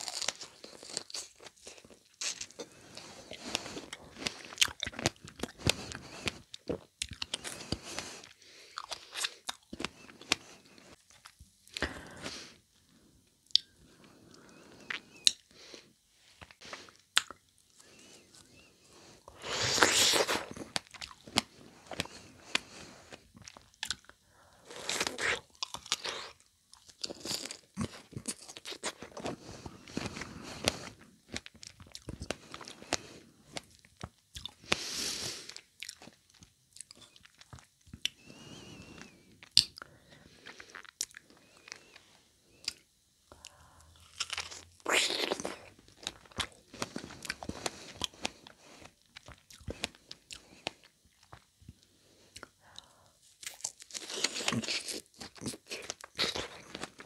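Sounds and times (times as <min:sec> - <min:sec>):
wet chewing of strawberries: 0:00.0 - 0:12.2, 0:16.4 - 0:34.9, 0:35.5 - 0:41.9, 0:43.4 - 0:52.8, 0:53.4 - 0:57.0.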